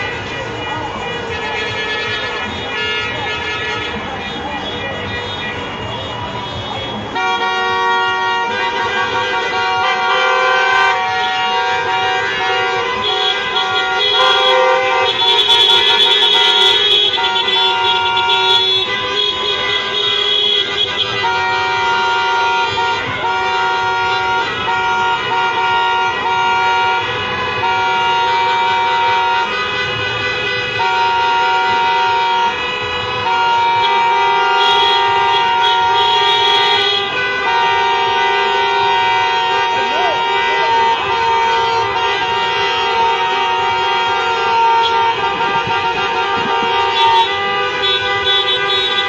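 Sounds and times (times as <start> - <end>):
car horns honking: 0.0 - 49.0.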